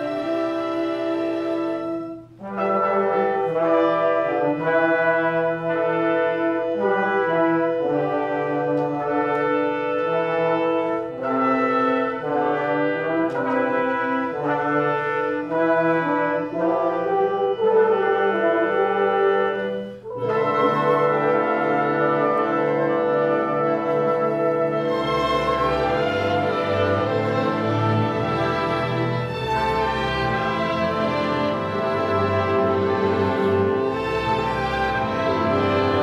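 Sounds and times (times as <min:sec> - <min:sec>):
brass chords: 0:00.0 - 0:36.0
orchestra playing: 0:00.0 - 0:36.0.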